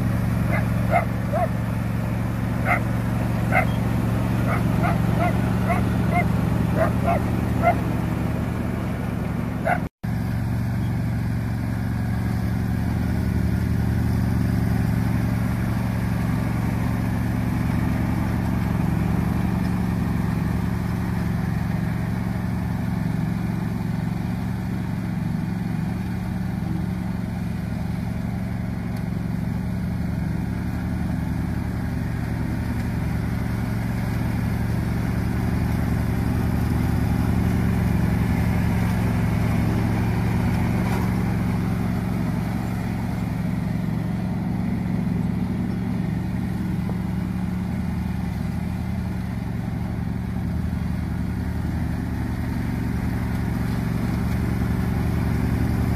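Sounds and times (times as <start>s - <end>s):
riding lawn mower engine: 0.0s - 55.9s.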